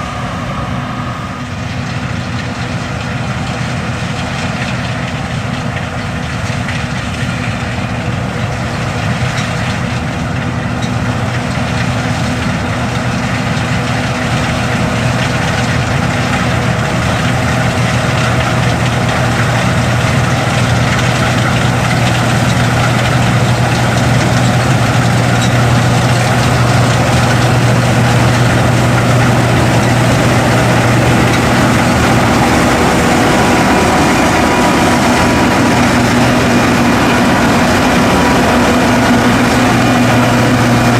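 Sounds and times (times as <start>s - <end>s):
combine harvester engine droning: 0.0s - 40.9s.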